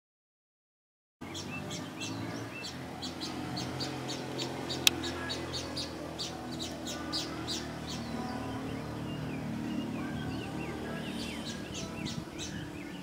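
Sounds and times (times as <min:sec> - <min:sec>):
small birds chirping: 0:01.2 - 0:13.0.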